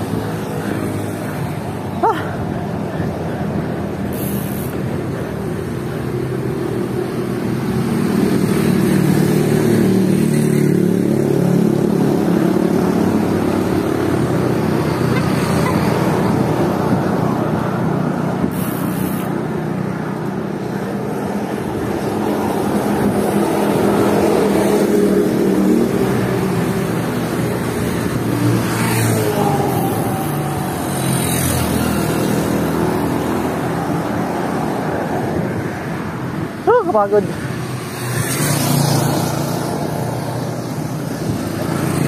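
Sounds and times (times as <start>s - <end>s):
vehicles passing on road: 0.0s - 42.0s.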